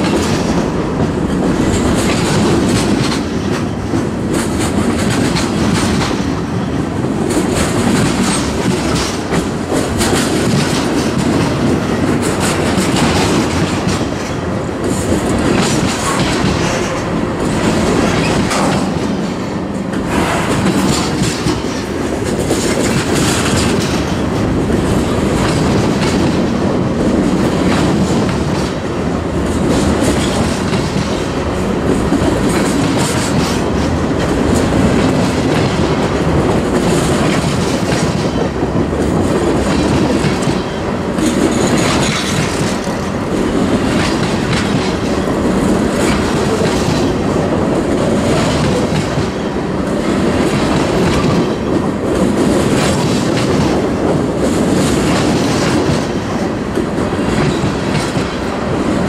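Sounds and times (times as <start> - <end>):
railcar wheels rumbling on rail: 0.0 - 59.0
wheels clacking over rail joints: 0.0 - 59.0.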